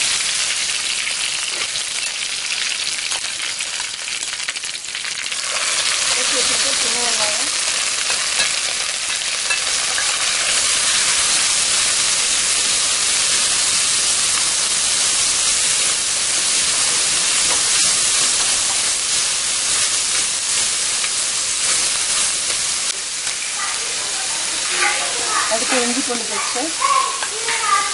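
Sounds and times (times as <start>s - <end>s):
onions sizzling in hot oil: 0.0s - 27.9s.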